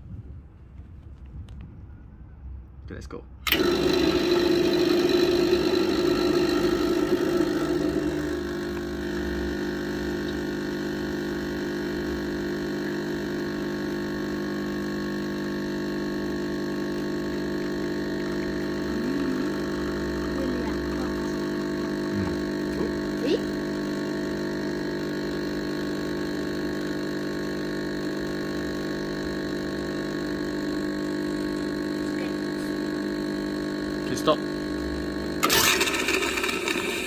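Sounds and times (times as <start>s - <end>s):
espresso machine pump humming: 3.4s - 37.0s
espresso dripping into a cup: 4.7s - 35.4s.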